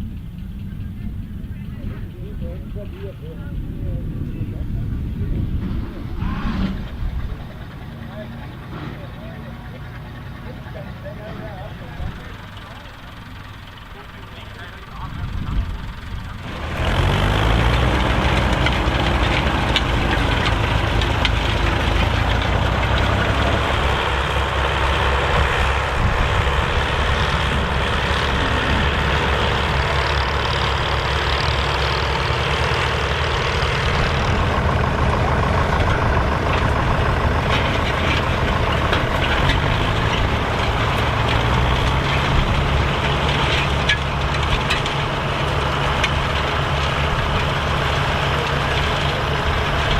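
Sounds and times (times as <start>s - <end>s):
tractor engines running: 0.0s - 49.9s.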